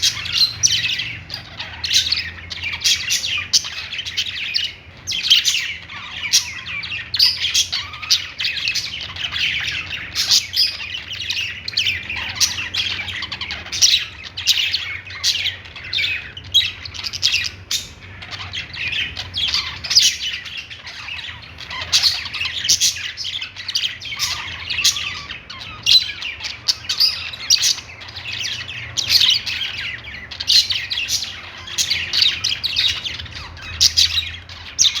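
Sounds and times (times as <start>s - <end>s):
budgerigars chirping and warbling: 0.0s - 35.0s.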